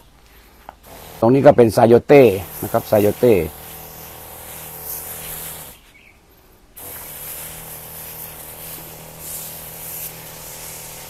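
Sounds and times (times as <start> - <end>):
sprayer wand hissing: 0.2 - 6.0, 6.6 - 11.0
electric pump humming: 0.4 - 5.9, 6.7 - 11.0.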